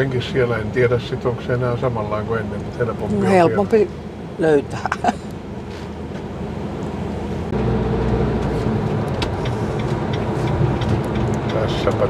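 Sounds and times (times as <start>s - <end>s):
diesel engine and road noise: 0.0s - 12.0s.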